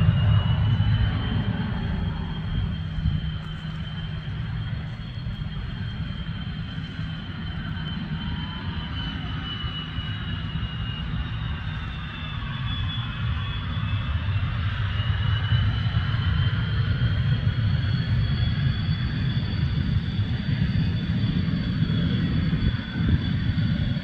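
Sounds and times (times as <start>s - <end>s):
jet engine whine and rumble: 0.0s - 24.0s.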